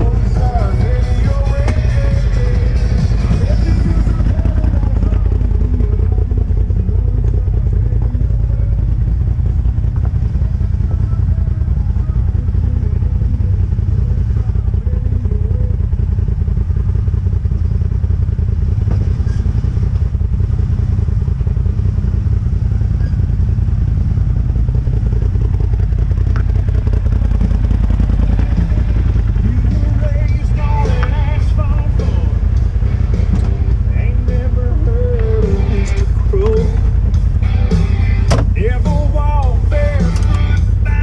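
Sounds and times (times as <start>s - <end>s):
utility vehicle engine running: 0.0s - 41.0s.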